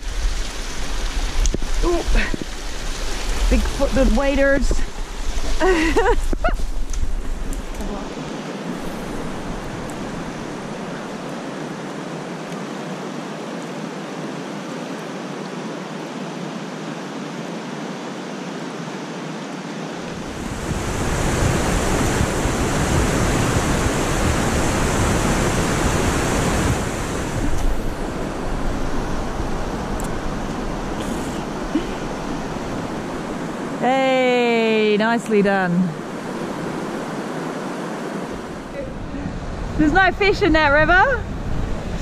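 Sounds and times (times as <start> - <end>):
river water rushing over stones: 0.0 - 39.8.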